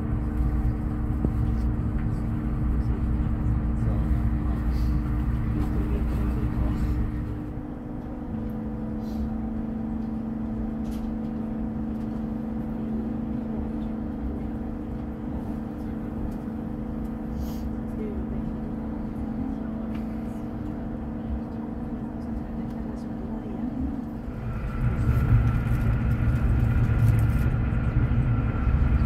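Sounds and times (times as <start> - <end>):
steady hum of held tones: 0.0 - 29.0
train wheels rumbling on track: 0.0 - 29.0.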